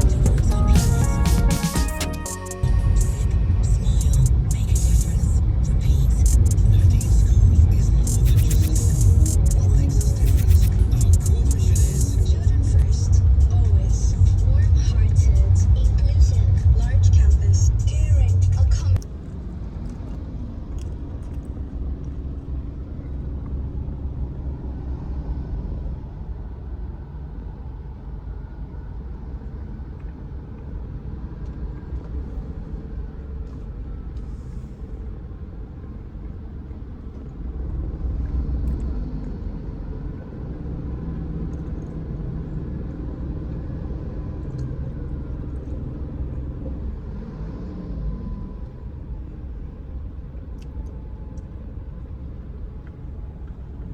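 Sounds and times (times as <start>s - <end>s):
car engine rumbling: 0.0s - 27.6s, 28.7s - 53.9s.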